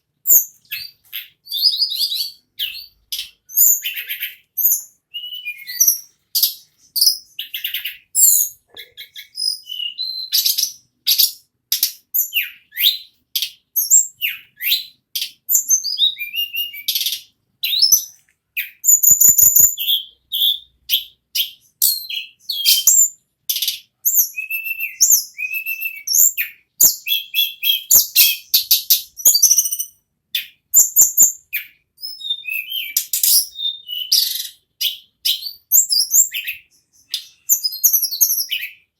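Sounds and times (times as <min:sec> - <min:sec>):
bird singing high chirps: 0:00.2 - 0:38.9.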